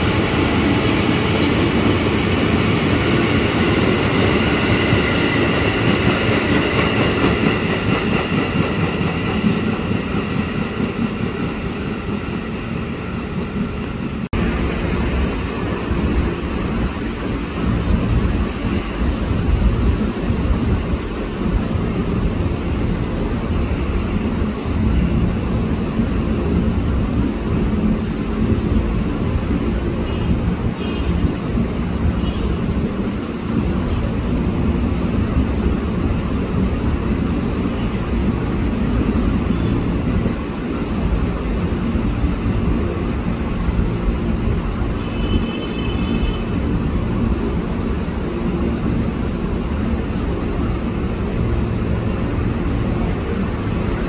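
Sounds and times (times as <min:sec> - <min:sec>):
diesel locomotive engine rumble: 0:00.0 - 0:54.0.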